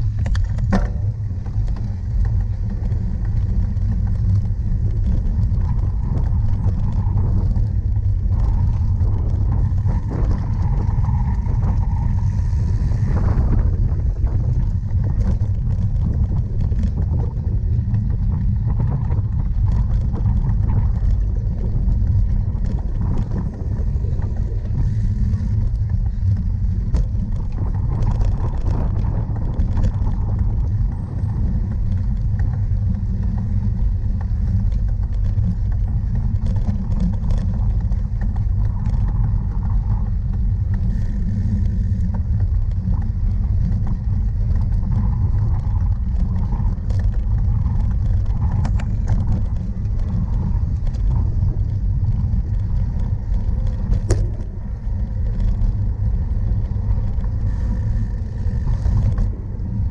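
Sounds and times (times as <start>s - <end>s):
bike riding vibration: 0.0s - 59.9s
ticks and rattles: 0.0s - 59.9s
wind rumble: 0.0s - 59.9s.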